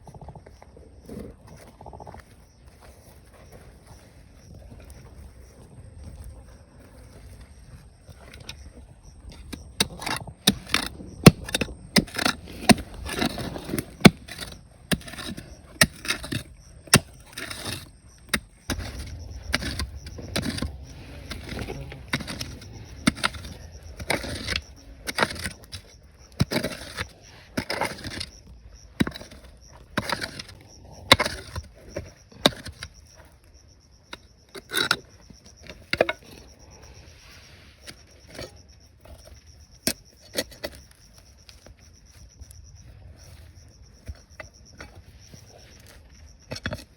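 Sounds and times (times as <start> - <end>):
rocks and gravel clacking: 7.2 - 37.0, 37.8 - 46.9.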